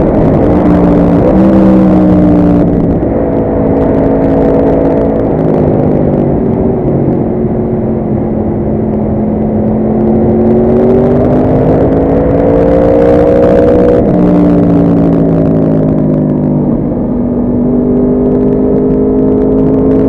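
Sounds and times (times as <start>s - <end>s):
motorcycle engine at speed: 0.0s - 20.0s.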